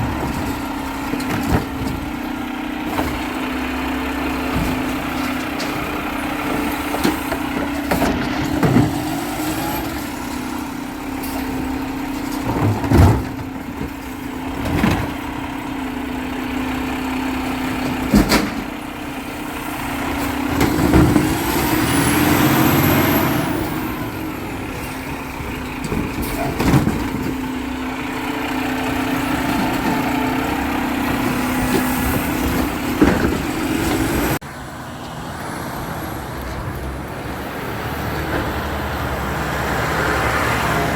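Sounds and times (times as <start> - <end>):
garbage truck humming: 0.0 - 40.9.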